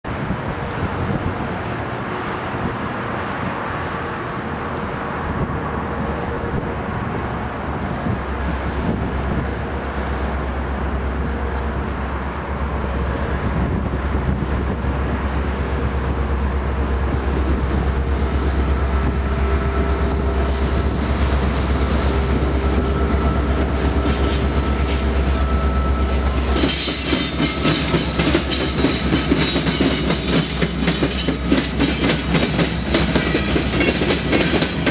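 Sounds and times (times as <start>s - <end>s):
diesel locomotives rumbling: 0.0s - 34.9s
rail cars wheel clatter: 0.1s - 34.9s.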